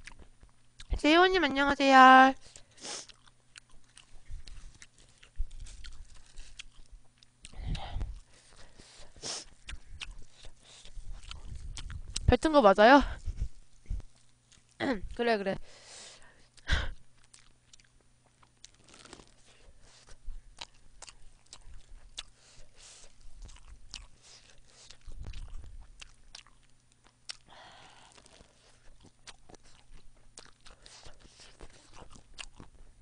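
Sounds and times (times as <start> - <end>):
chewing and crunching food: 0.0 - 1.1, 1.9 - 33.0.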